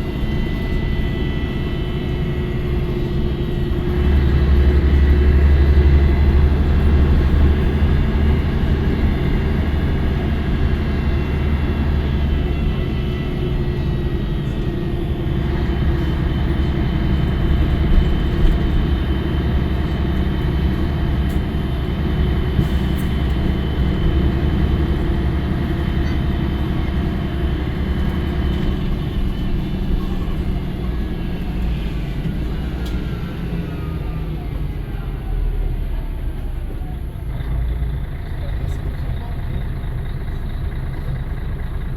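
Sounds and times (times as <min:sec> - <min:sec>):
bus diesel engine droning: 0:00.0 - 0:41.9.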